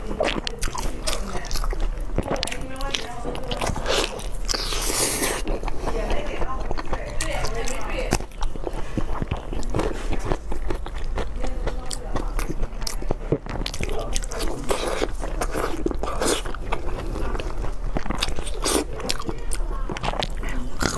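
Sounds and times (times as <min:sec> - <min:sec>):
close biting and chewing: 0:00.0 - 0:20.9.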